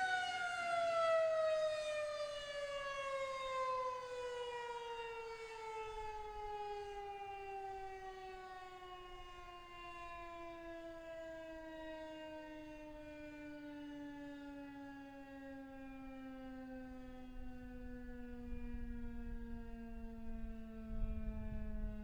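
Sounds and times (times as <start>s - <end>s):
warning siren winding down: 0.0s - 22.0s.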